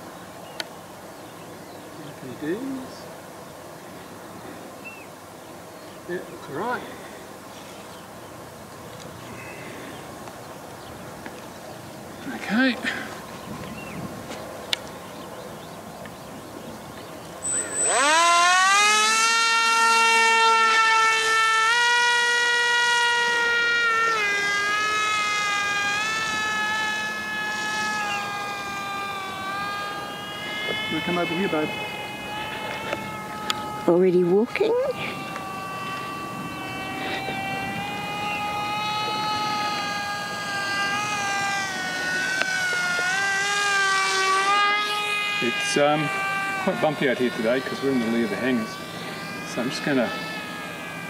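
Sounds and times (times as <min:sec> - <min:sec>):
model plane motor whine: 0:06.2 - 0:51.0.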